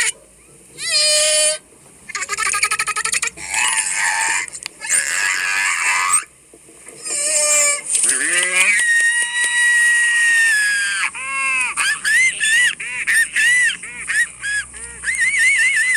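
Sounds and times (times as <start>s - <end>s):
loud animal calls: 0.0s - 15.9s.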